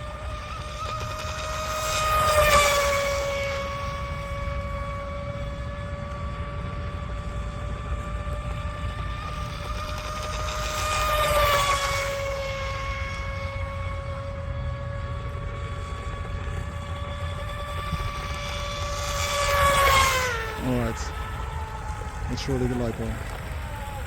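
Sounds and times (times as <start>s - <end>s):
rc boat motor high whine: 0.0s - 24.0s.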